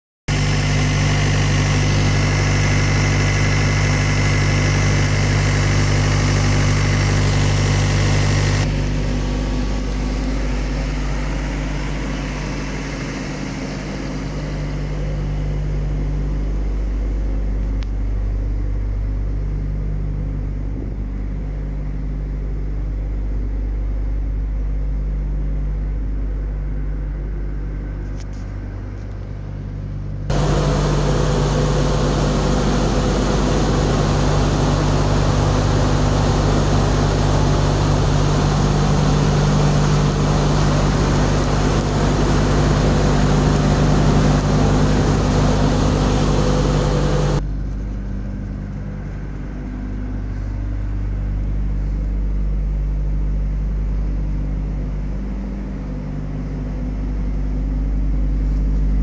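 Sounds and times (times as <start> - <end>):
diesel engine droning: 0.3 - 59.0.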